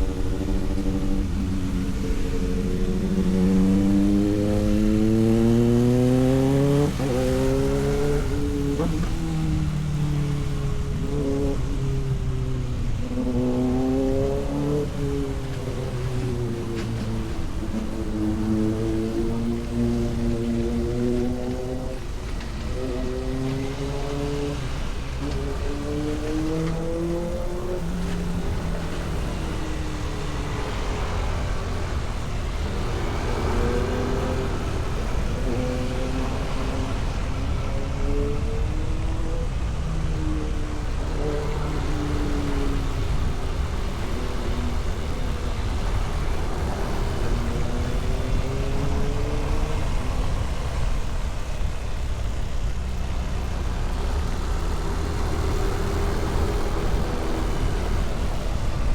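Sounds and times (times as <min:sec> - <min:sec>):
vehicle engine revving: 0:00.0 - 0:58.9
wind and road noise: 0:00.0 - 0:58.9.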